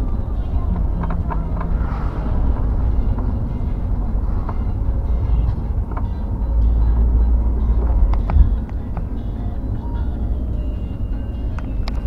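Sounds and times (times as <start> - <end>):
car road and wind rumble: 0.0 - 12.0.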